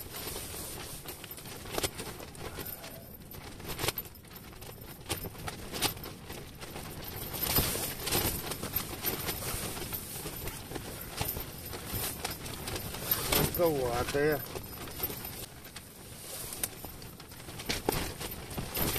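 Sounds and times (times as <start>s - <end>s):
tent fabric flapping in wind: 0.0s - 18.9s.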